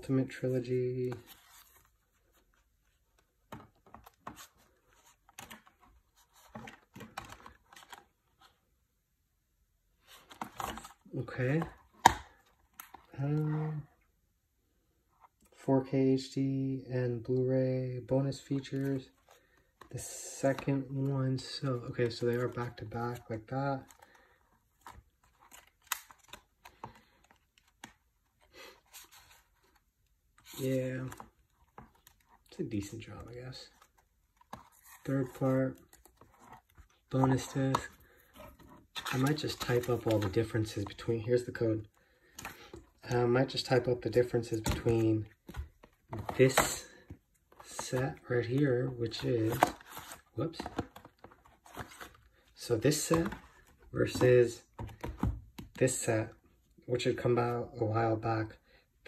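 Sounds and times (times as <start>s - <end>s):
clicks and rustles of disc case: 0.6s - 8.6s, 10.0s - 13.2s, 18.3s - 56.5s.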